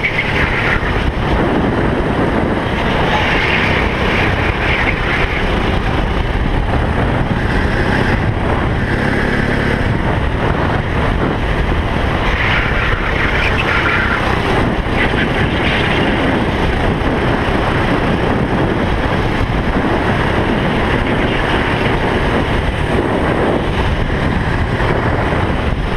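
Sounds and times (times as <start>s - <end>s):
kart engine running: 0.0s - 25.9s
wind rushing over microphone: 0.0s - 25.9s.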